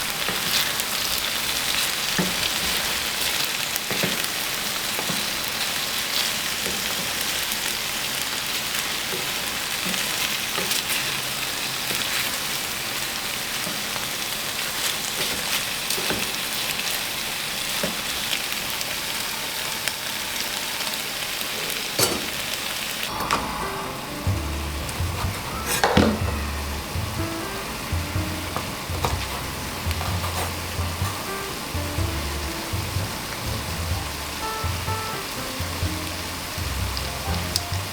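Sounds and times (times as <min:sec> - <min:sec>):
food sizzling in a frying pan: 0:00.0 - 0:37.9.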